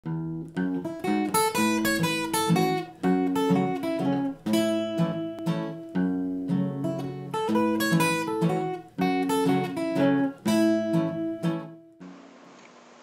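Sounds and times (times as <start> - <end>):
plucked string instrument melody: 0.0 - 12.0.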